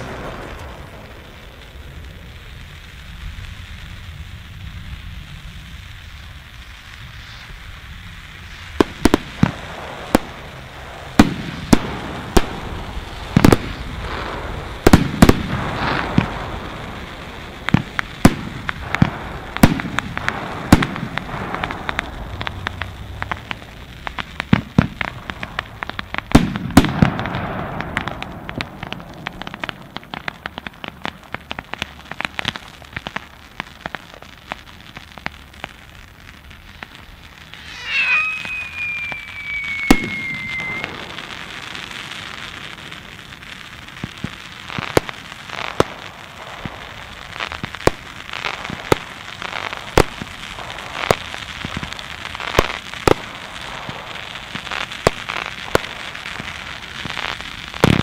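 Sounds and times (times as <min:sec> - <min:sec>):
small quick firework pops: 0:00.0 - 0:02.3, 0:08.4 - 0:16.6, 0:17.6 - 0:58.0
crackling hiss of burning fireworks: 0:00.0 - 0:58.0
fireworks banging: 0:00.0 - 0:58.0.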